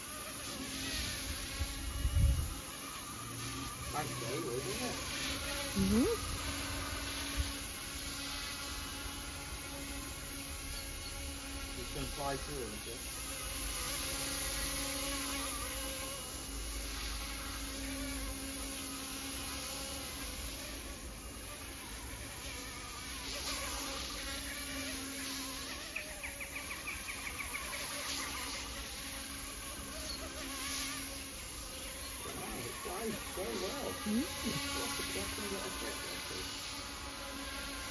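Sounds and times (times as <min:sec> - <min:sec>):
rc helicopter buzzing whine: 0:00.0 - 0:37.9.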